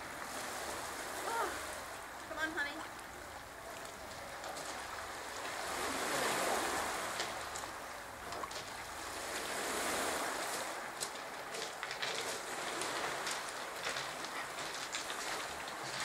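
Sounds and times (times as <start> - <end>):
waves washing on pebble beach: 0.0 - 16.0.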